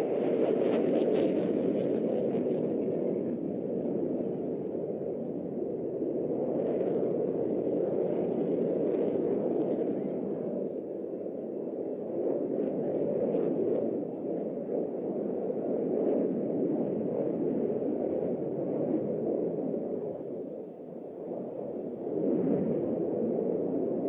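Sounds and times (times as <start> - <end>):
jet aircraft flying overhead: 0.0 - 24.0.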